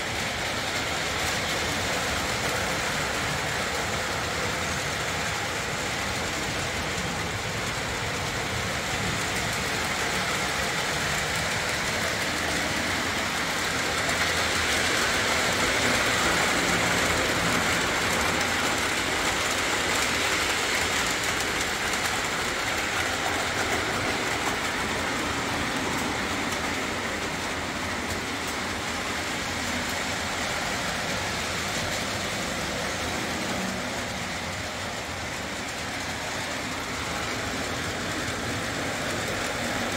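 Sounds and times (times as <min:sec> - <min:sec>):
model train motor whirring: 0:00.0 - 0:39.9
model train wheels clattering: 0:00.0 - 0:39.9.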